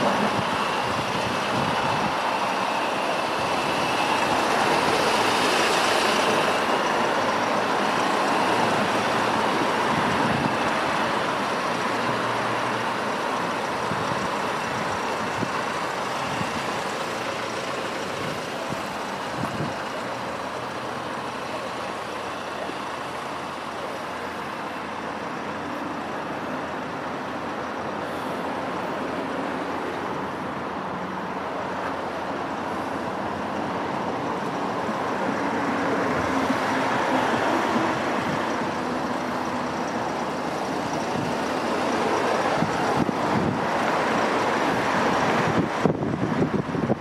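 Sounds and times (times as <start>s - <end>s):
road traffic drone: 0.0s - 47.0s.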